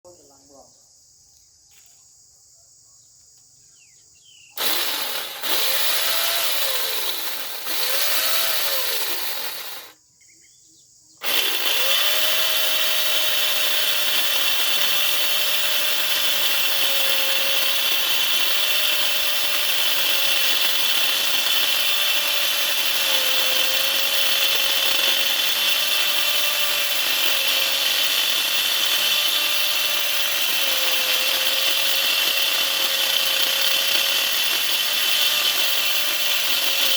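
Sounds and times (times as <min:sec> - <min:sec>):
power tool cutting wood: 0:04.6 - 0:10.0, 0:11.2 - 0:36.9.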